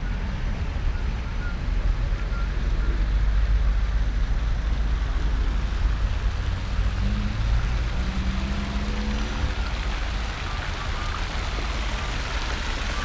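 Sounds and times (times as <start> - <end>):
traffic: 0.0 - 13.0
vehicle engine hum: 0.0 - 13.0.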